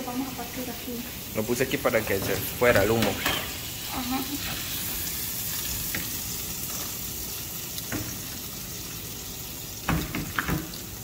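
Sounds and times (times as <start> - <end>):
sausages sizzling in a frying pan: 0.0 - 11.0.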